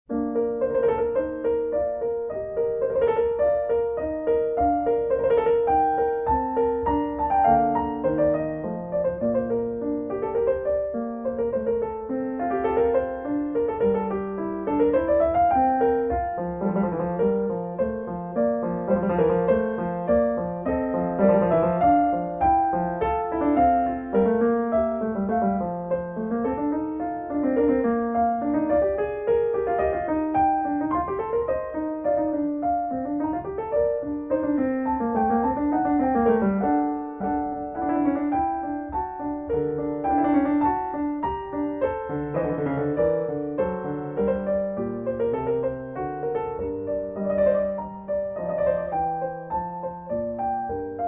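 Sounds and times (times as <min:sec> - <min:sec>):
piano music: 0:00.1 - 0:51.0.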